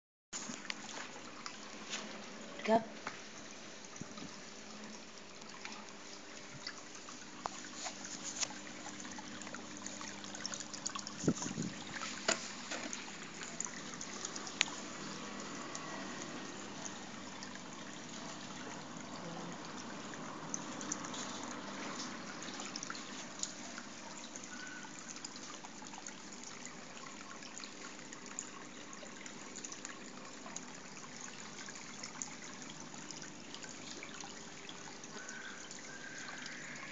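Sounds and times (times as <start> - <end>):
trickling water: 0.4 - 36.9.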